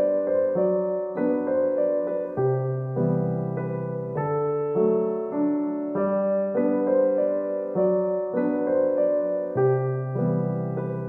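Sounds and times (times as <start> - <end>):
gentle solo piano piece: 0.0 - 11.0.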